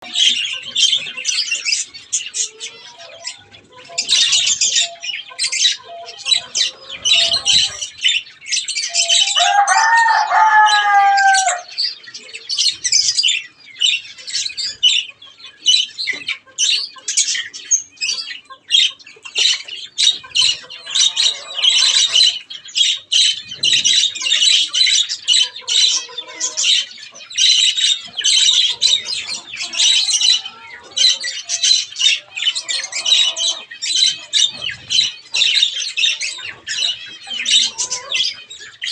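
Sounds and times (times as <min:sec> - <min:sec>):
budgies chattering and chirping: 0:00.0 - 0:38.9.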